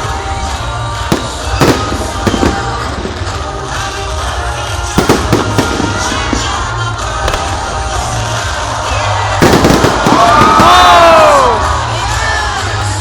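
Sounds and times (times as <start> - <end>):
loud music playing: 0.0 - 13.0
fireworks bangs: 1.0 - 11.9.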